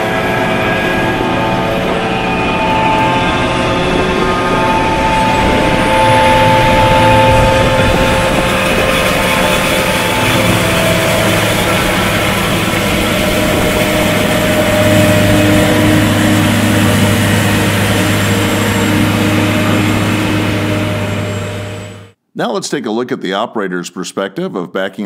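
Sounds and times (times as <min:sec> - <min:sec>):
chopping and blowing noise: 0:00.0 - 0:22.1
harvester engine hum: 0:00.0 - 0:22.2.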